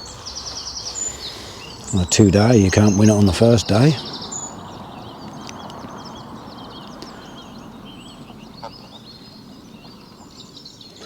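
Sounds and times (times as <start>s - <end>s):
birds chirping and calling: 0.0s - 11.0s
outdoor hush: 0.0s - 11.0s.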